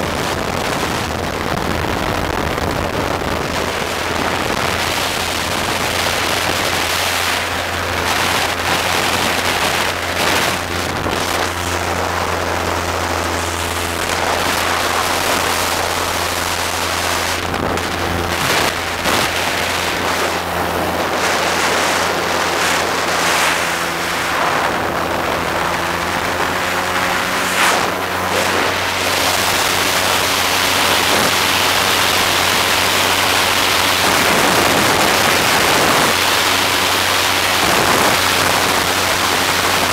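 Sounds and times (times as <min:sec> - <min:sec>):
boat engine droning: 0:00.0 - 0:39.9
wind noise on microphone: 0:00.0 - 0:39.9.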